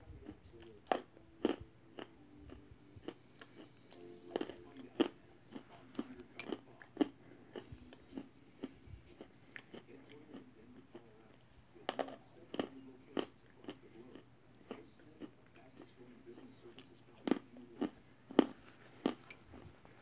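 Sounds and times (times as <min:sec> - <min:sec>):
chalk being bitten and chewed: 0:00.6 - 0:16.0, 0:16.6 - 0:19.8.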